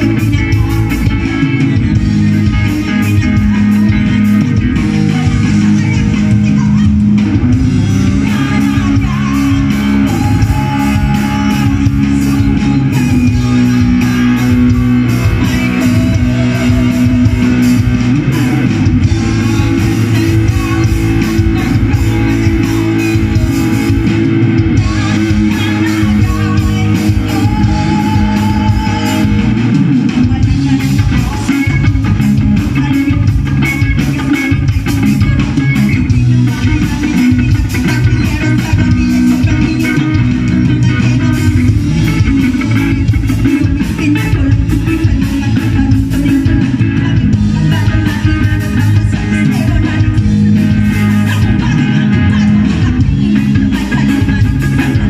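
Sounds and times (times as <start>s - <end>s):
bass guitar: 0.0s - 55.0s
drums with steady beat: 0.0s - 55.0s
electric guitar: 0.0s - 55.0s
woman singing into microphone: 0.0s - 55.0s.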